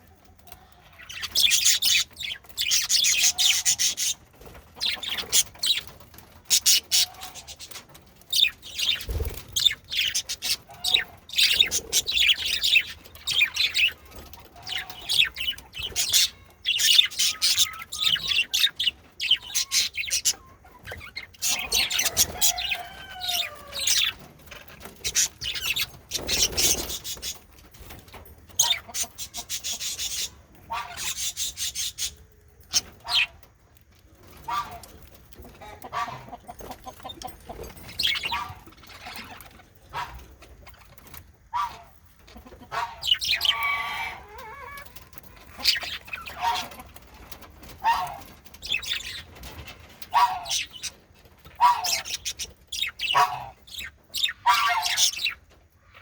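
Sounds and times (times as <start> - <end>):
budgerigars chirping and warbling: 0.3 - 33.5, 34.3 - 56.0.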